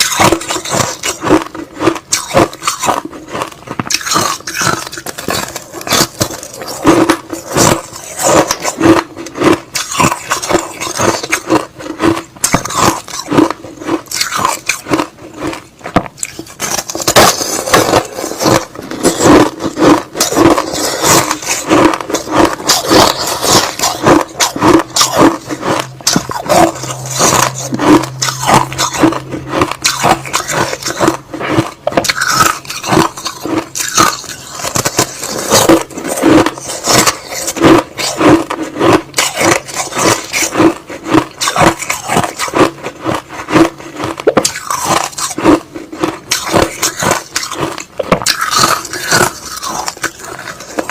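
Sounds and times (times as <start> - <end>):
chewing crushed ice: 0.0 - 50.9.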